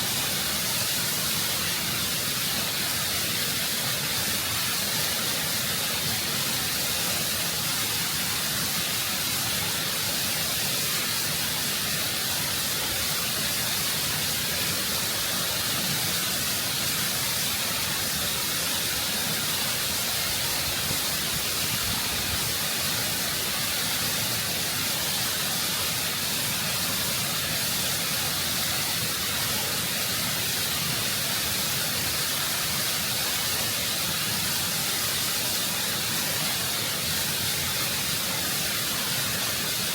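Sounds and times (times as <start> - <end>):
waterfall rushing over rock: 0.0 - 39.9.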